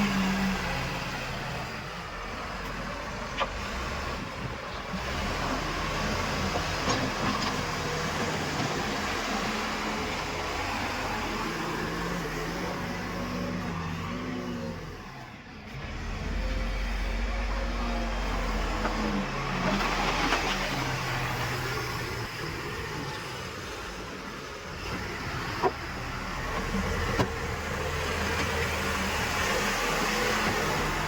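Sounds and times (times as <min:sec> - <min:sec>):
diesel machinery engines running: 0:00.0 - 0:31.0.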